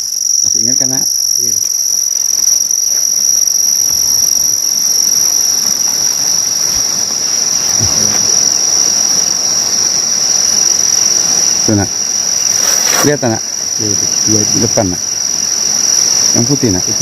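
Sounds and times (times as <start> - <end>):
shrill insect chorus: 0.0 - 17.0.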